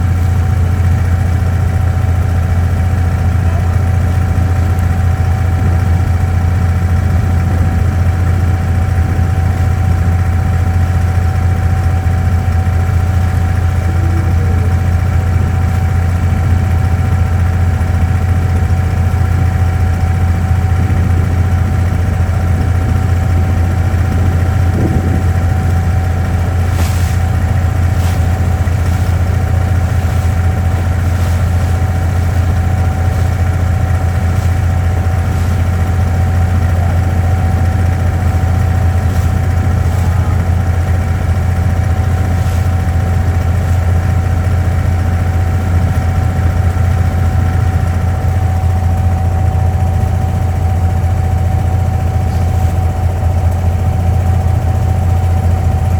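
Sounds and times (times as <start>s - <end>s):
boat diesel engine droning: 0.0s - 55.9s
engine whine: 0.0s - 55.9s.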